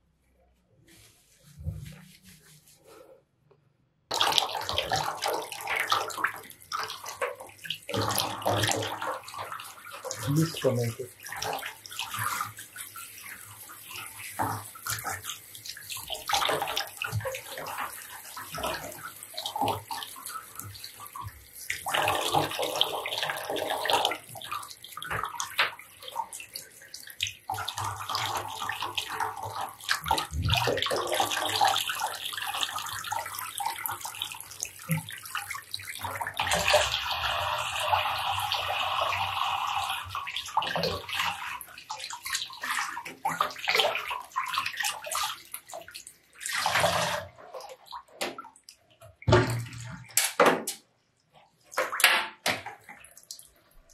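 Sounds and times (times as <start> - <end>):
small water splashes and drips: 4.1 - 53.9.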